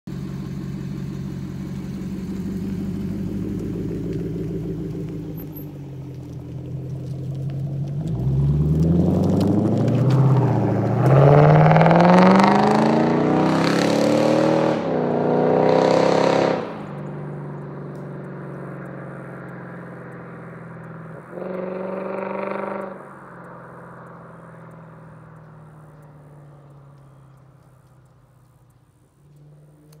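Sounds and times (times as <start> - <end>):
car engine accelerating: 0.1 - 30.0.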